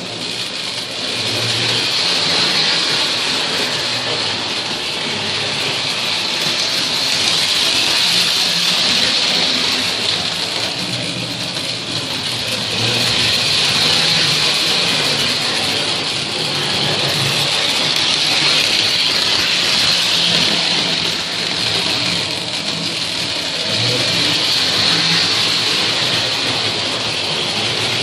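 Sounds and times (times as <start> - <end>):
toy train rattling on metal track: 0.0 - 28.0.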